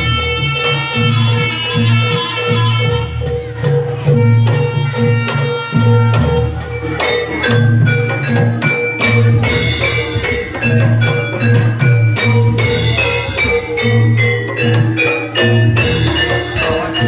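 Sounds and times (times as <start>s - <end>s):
drums beating: 0.0s - 17.0s
pitched melody notes: 0.0s - 17.0s.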